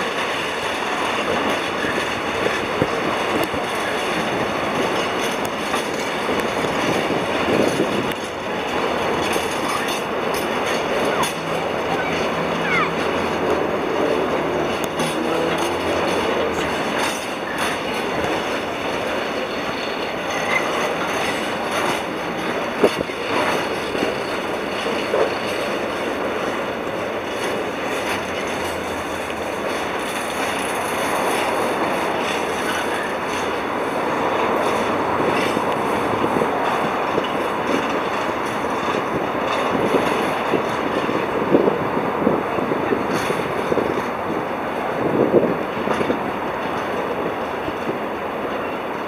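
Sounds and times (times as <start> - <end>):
train wheels clicking: 0.0 - 49.0
train wheels on rails: 0.0 - 49.0.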